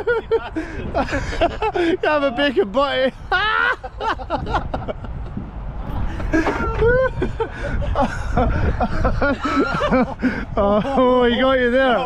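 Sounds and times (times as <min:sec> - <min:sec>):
steady low rumble: 0:00.0 - 0:11.3
men chuckling and talking: 0:00.0 - 0:12.0.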